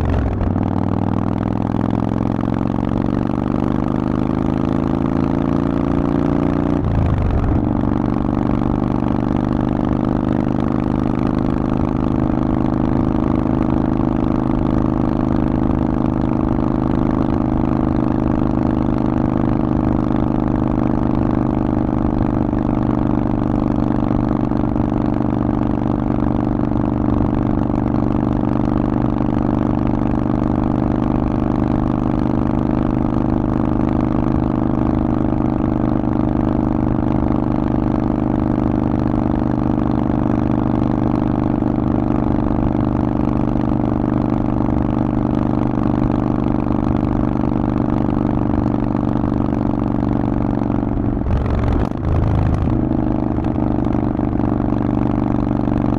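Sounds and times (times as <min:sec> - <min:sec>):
motorcycle engine running steadily: 0:00.0 - 0:55.9.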